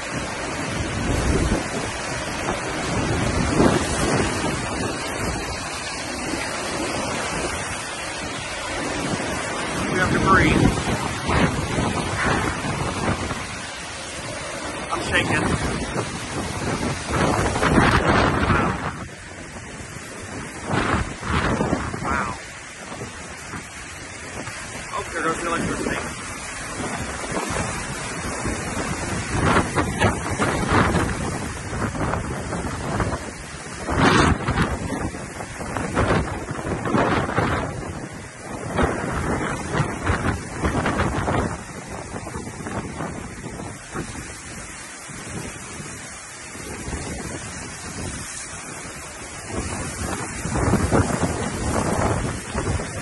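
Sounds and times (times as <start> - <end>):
storm wind buffeting microphone: 0.0 - 53.0.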